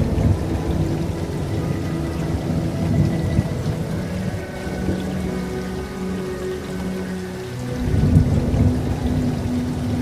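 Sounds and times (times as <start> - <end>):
thunder rumbling: 0.0 - 6.8, 7.6 - 10.0
ambient music low notes: 0.0 - 10.0
rain pattering: 0.0 - 10.0.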